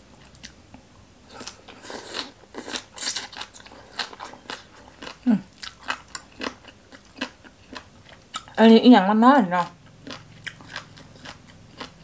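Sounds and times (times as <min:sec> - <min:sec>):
person chewing crunchy food: 0:01.3 - 0:08.6, 0:09.6 - 0:12.0.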